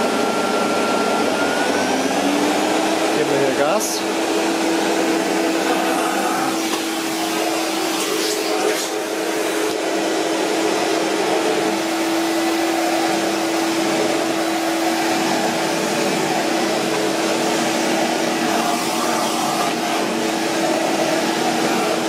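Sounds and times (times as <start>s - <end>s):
vacuum cleaner running: 0.0s - 22.0s
vacuum nozzle on wooden floor: 0.0s - 22.0s.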